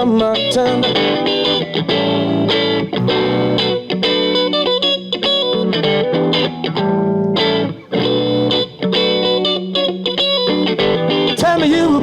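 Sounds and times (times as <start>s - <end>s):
electric guitar playing chords: 0.0s - 12.0s.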